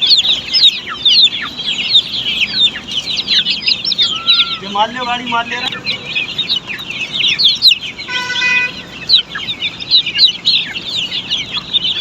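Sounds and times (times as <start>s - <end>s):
chicks peeping: 0.0s - 12.0s
held chick call: 0.0s - 12.0s.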